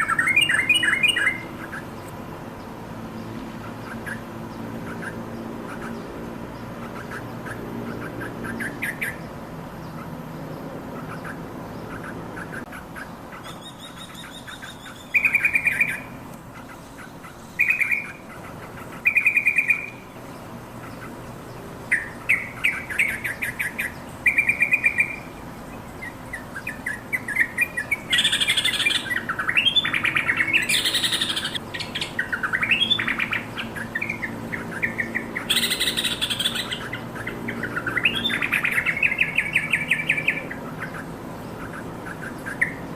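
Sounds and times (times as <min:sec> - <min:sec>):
bird chattering song: 0:00.0 - 0:42.9
bird singing buzzy trills: 0:00.0 - 0:42.9.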